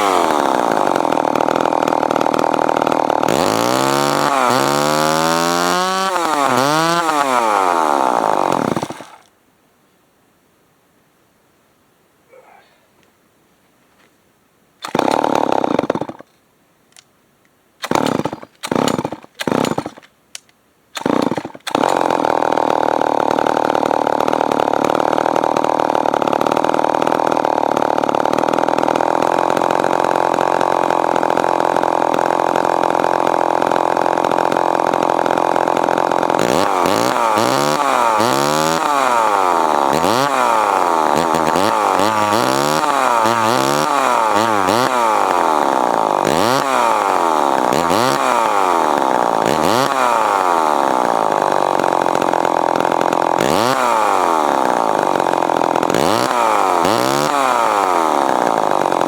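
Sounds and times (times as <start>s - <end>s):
chainsaw engine starting and revving: 0.0s - 9.3s, 14.8s - 16.3s, 17.8s - 20.1s, 21.0s - 59.0s.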